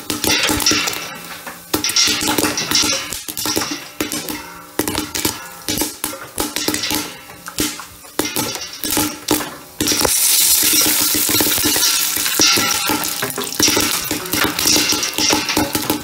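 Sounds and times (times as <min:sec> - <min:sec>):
oil sizzling: 0:00.0 - 0:16.0
popcorn popping in oil: 0:00.0 - 0:16.0.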